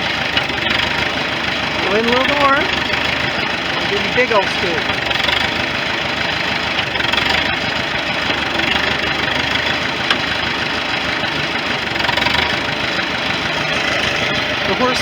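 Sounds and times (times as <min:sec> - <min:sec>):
loader bucket scooping wood chips: 0:00.0 - 0:15.0
tractor engine running: 0:00.0 - 0:15.0.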